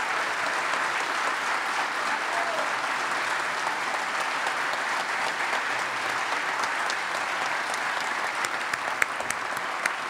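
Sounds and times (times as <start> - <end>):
audience applauding: 0.0 - 10.0
distinct loud claps: 0.0 - 10.0.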